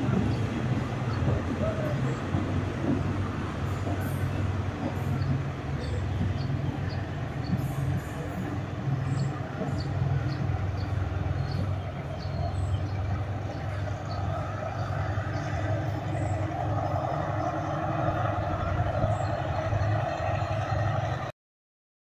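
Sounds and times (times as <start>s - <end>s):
diesel train rumbling: 0.0s - 21.3s.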